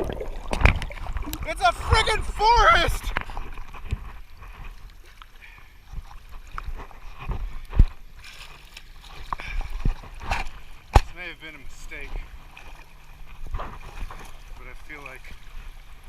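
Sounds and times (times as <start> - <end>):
person wading through water: 0.0 - 16.0.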